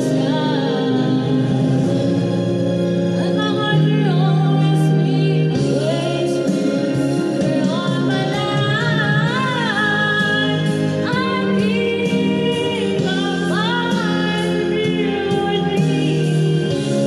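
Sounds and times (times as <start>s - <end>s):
karaoke backing track: 0.0s - 17.0s
woman singing a slow ballad: 0.0s - 17.0s.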